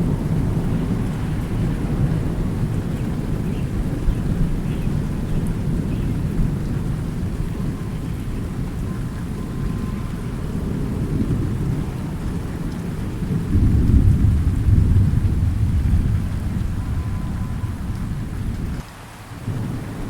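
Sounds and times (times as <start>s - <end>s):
rolling thunder: 0.0s - 18.8s, 19.4s - 20.0s
steady rain: 0.0s - 20.0s.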